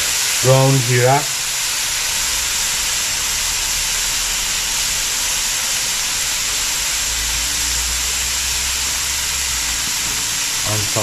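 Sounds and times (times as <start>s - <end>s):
hot oil sizzling in a pot: 0.0s - 11.0s.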